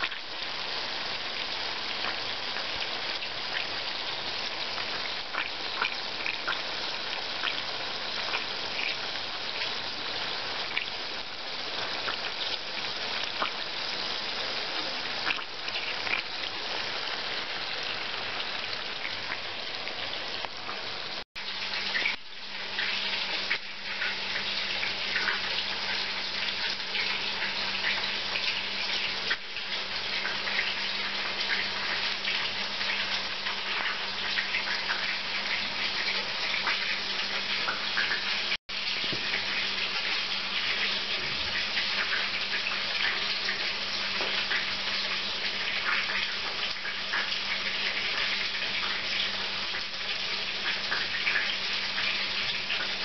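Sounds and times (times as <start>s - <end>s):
cutlets sizzling in oil: 0.0s - 53.0s.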